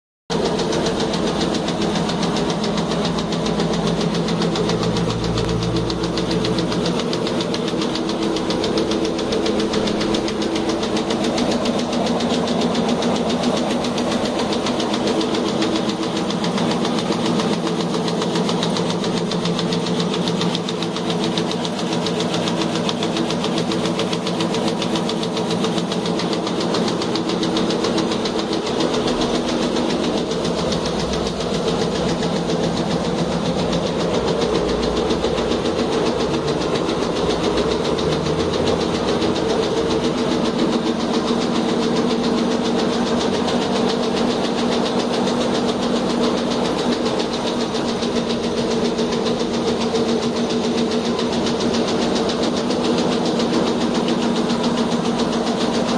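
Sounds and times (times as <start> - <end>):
knitting machine clattering: 0.3 - 55.9.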